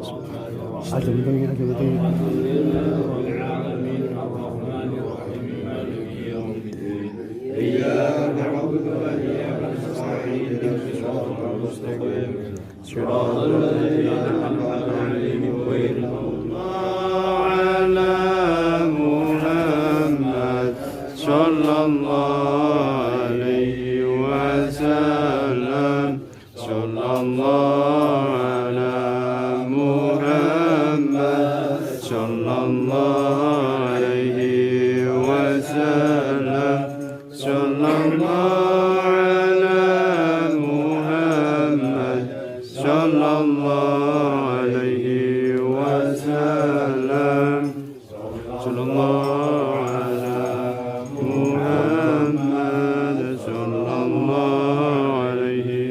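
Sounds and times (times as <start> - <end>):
group chanting devotional song: 0.0 - 55.9.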